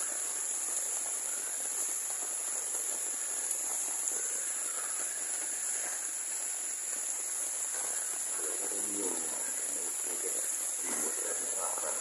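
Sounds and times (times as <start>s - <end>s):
insects trilling: 0.0s - 12.0s
soft hiss of rain: 0.0s - 12.0s.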